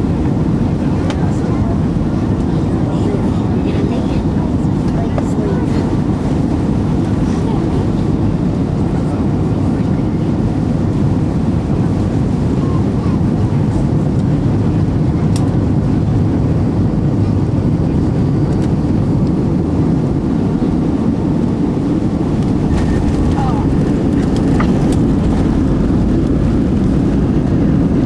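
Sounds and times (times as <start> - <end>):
jet engines and airflow rushing: 0.0 - 28.0.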